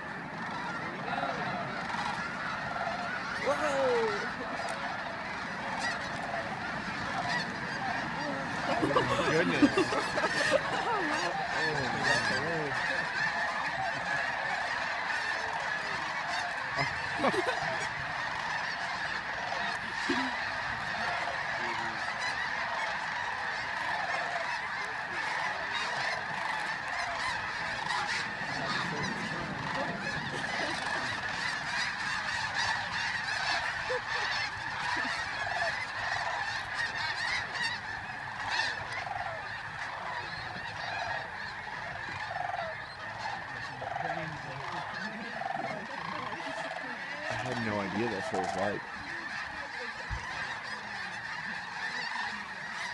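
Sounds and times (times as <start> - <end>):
flock of geese honking: 0.0 - 52.9.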